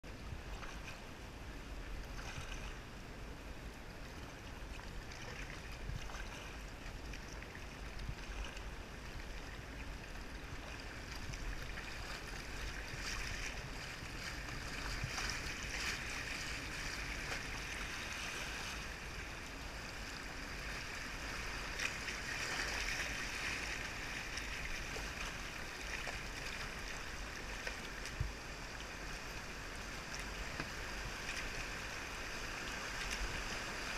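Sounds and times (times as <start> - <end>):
light paddle splashes: 0.4 - 1.2, 2.0 - 2.8, 4.0 - 19.4, 20.0 - 33.9
river water rushing over gravel: 3.8 - 33.9.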